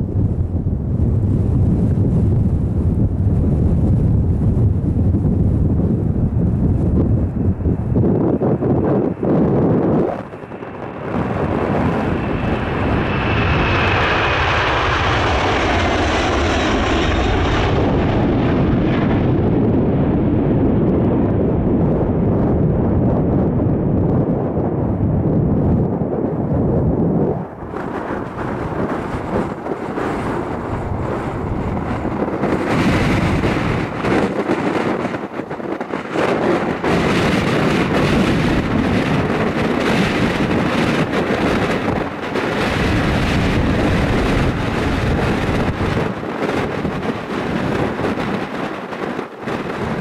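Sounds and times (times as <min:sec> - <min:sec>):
jet airliner flying past: 0:00.0 - 0:50.0
wind buffeting microphone: 0:00.0 - 0:50.0.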